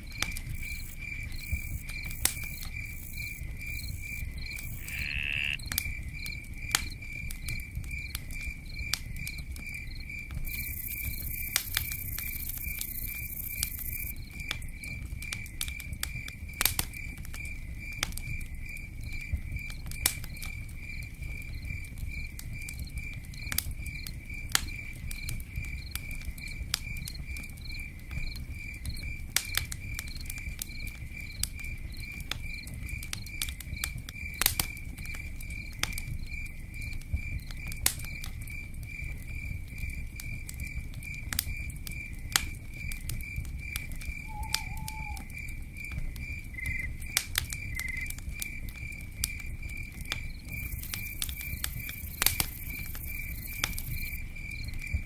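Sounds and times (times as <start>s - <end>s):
campfire crackling and popping: 0.0s - 55.0s
cricket chirping: 0.0s - 55.0s.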